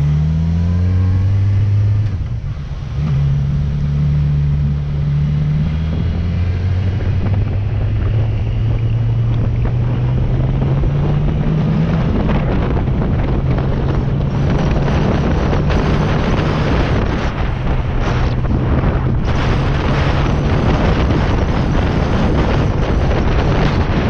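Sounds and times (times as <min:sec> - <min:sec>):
motorcycle engine accelerating: 0:00.0 - 0:24.0
wind rushing over microphone: 0:00.0 - 0:24.0.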